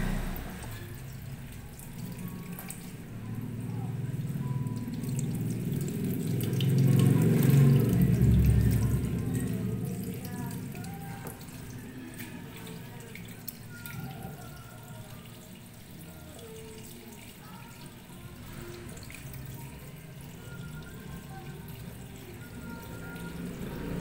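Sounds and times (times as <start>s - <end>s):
faucet running into colander: 0.0s - 24.0s.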